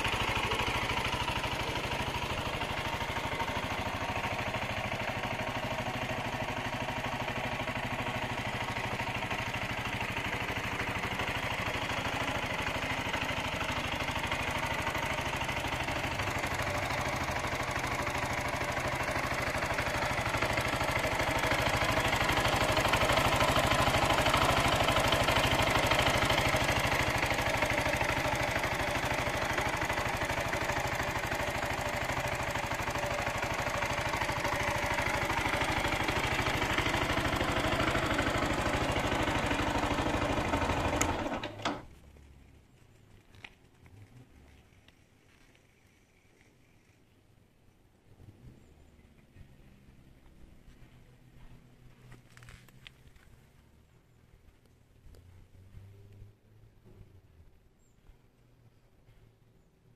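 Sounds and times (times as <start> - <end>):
motorcycle engine idling: 0.0 - 59.2.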